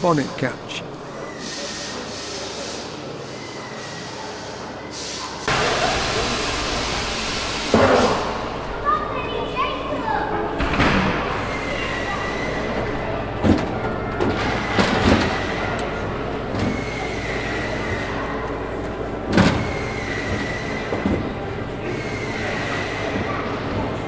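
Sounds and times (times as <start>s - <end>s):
workshop hum: 0.0s - 24.0s.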